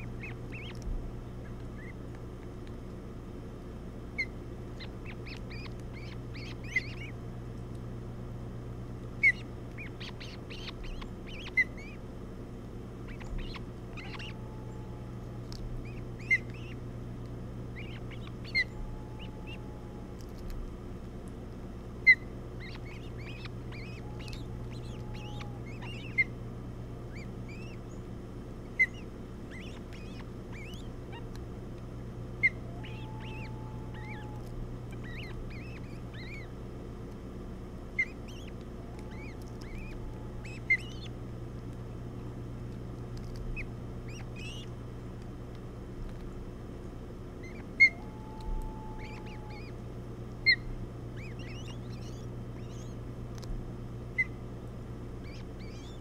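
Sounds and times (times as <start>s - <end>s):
ospreys chirping: 0.0s - 2.1s, 4.1s - 7.4s, 9.2s - 12.1s, 13.0s - 20.5s, 21.9s - 31.4s, 32.2s - 44.8s, 47.4s - 53.2s, 54.1s - 54.4s, 55.2s - 56.0s
steady low hum: 0.0s - 56.0s.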